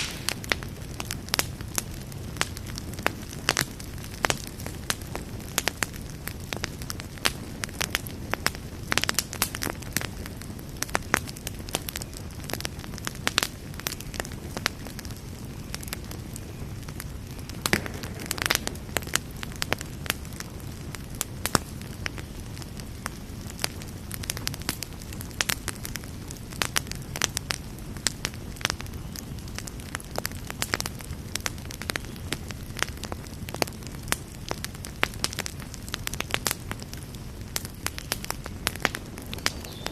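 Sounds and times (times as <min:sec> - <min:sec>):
campfire roaring: 0:00.0 - 0:39.9
fire crackling and popping: 0:00.0 - 0:39.9.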